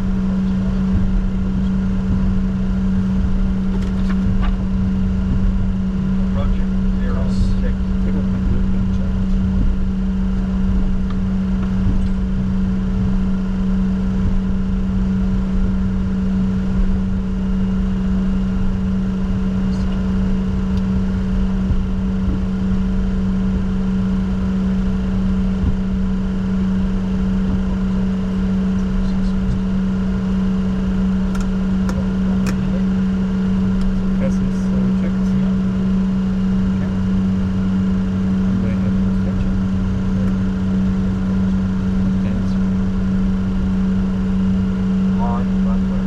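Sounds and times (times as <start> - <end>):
jet cockpit engine drone: 0.0 - 46.0.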